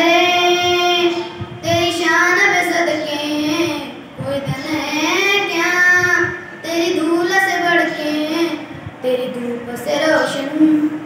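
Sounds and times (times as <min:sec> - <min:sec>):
boy singing into a microphone: 0:00.0 - 0:11.0.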